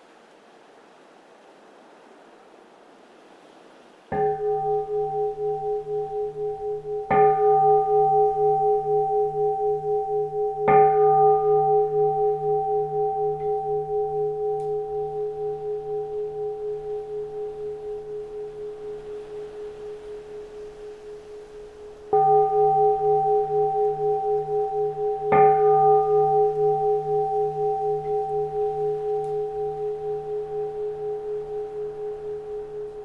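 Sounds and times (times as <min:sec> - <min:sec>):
faint wind: 0:00.0 - 0:33.0
bowl bell ringing: 0:04.2 - 0:33.0.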